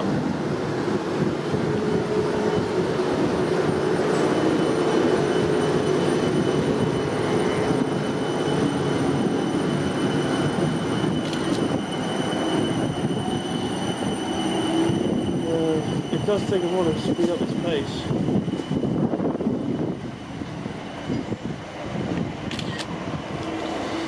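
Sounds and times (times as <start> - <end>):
electric train pulling away: 0.0 - 24.0.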